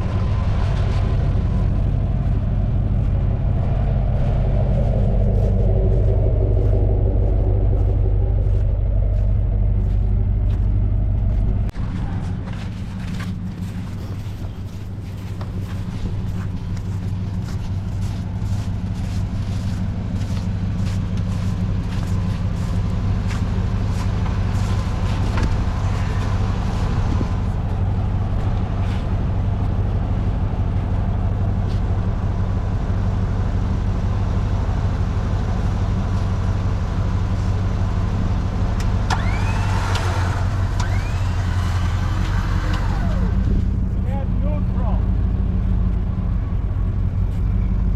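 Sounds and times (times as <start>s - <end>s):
vehicle engine droning: 0.0s - 47.9s.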